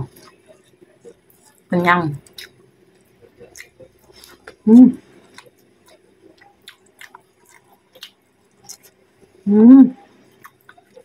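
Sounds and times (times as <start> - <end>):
wet chewing and mouth clicks: 0.1 - 4.6, 5.2 - 9.0, 10.3 - 11.0.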